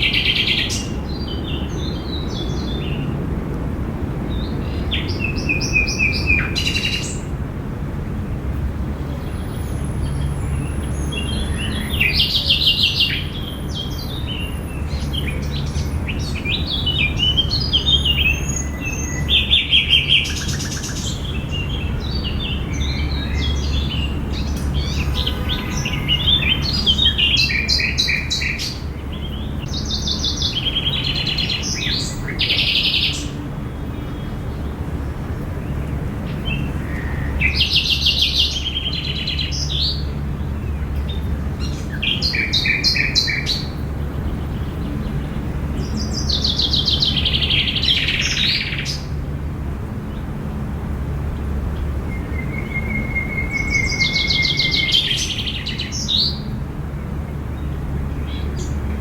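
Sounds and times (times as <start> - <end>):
songbirds singing: 0.0 - 7.5, 8.6 - 59.0.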